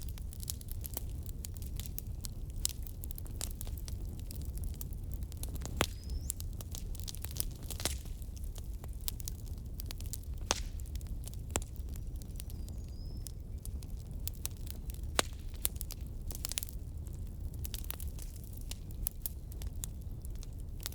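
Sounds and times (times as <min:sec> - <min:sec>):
firewood crackling and popping: 0:00.0 - 0:20.9.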